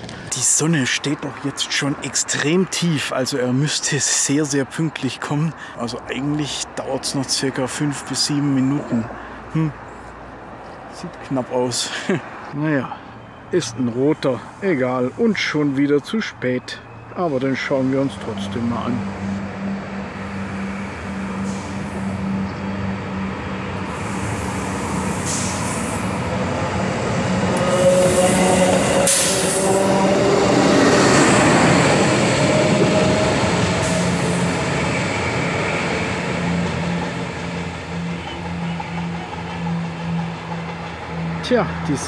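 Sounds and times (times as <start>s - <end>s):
diesel railcar passing: 0.0s - 42.0s.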